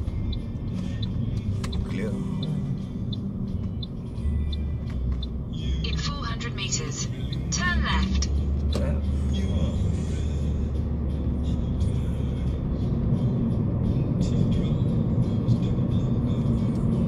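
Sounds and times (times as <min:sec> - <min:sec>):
music playing: 0:00.0 - 0:17.0
road and engine rumble: 0:00.0 - 0:17.0.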